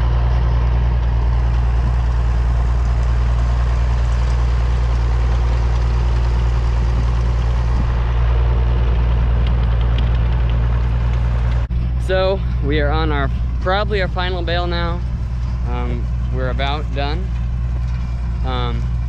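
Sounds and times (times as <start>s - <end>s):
tractor engine droning: 0.0s - 19.0s.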